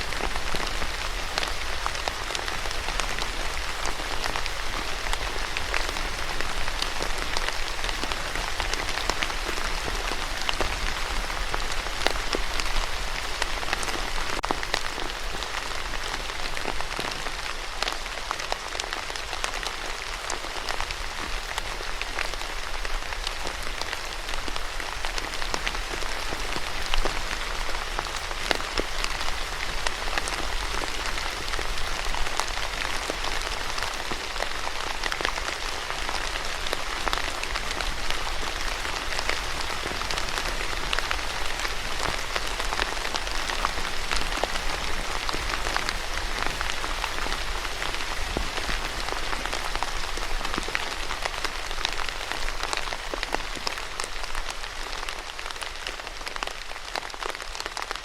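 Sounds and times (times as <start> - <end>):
raindrops ticking: 0.0 - 58.0
steady rain hiss: 0.0 - 58.0.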